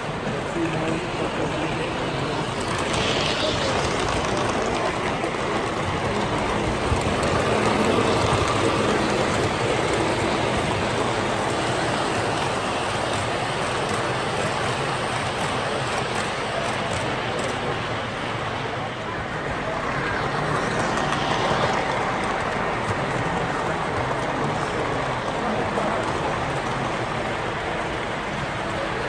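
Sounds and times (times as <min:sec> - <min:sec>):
model train wheels on rails: 0:00.0 - 0:29.0.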